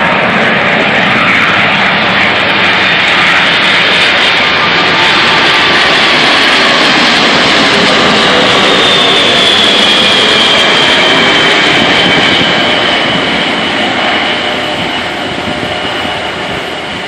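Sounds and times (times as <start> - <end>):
high engine whine: 0.0 - 17.0
jet airliner passing overhead: 0.0 - 17.0.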